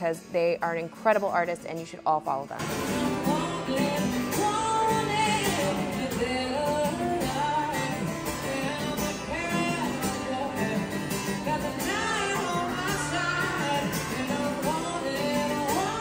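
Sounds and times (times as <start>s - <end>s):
acoustic guitar chords: 0.0s - 16.0s
person singing: 2.6s - 16.0s.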